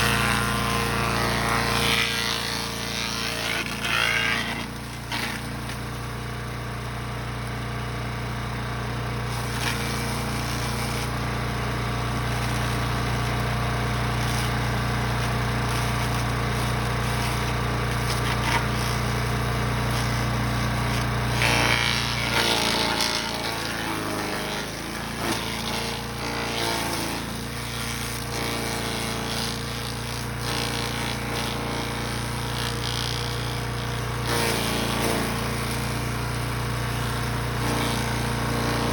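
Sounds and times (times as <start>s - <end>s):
chipper shredder engine running: 0.0s - 38.9s.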